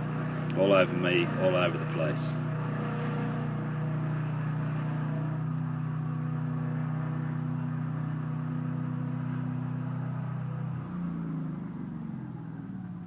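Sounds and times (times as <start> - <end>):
sawmill engine and blade droning: 0.0 - 13.0.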